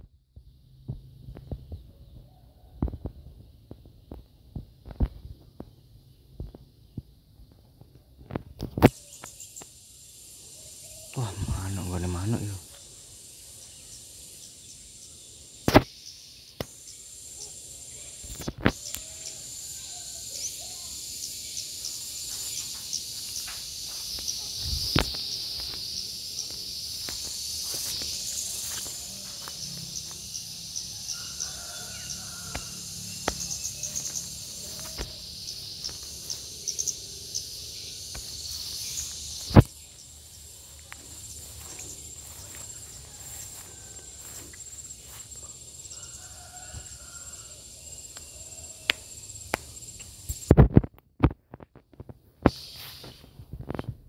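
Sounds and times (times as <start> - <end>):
high insect tone: 0.0 - 54.0
cicada buzzing song: 8.3 - 50.9, 51.6 - 53.9.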